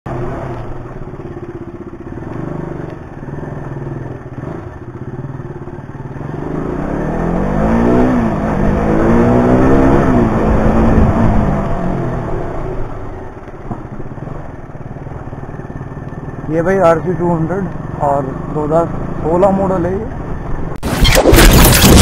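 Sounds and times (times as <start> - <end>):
motorcycle engine revving: 0.1 - 19.7.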